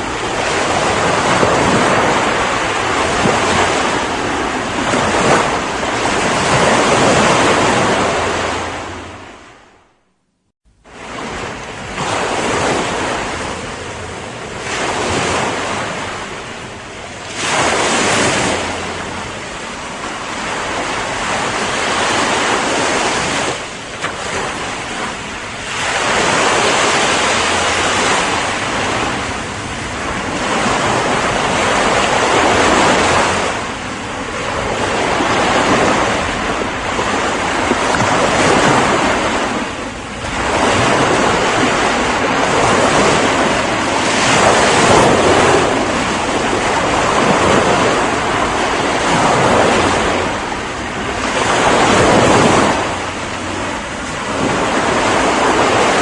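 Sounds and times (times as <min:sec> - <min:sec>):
ocean waves breaking on shore: 0:00.0 - 0:10.0, 0:10.7 - 0:56.0.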